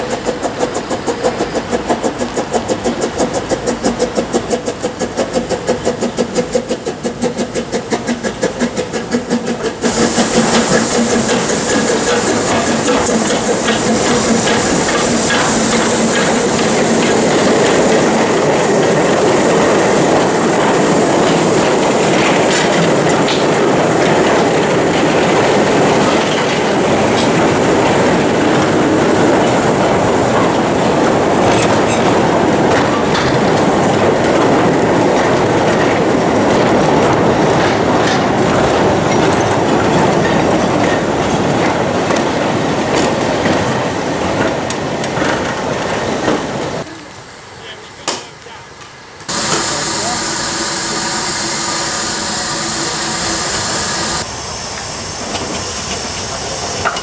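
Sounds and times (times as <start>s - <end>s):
wagon wheels rattling over rails: 0.0s - 46.9s.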